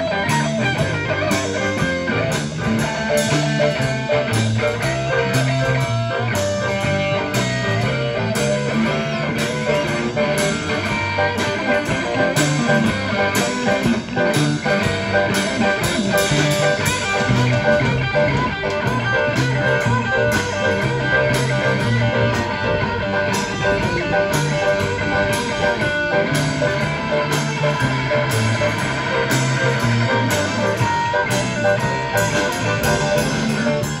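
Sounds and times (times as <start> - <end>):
drums keeping a steady beat: 0.0 - 34.0
electric guitar: 0.0 - 34.0.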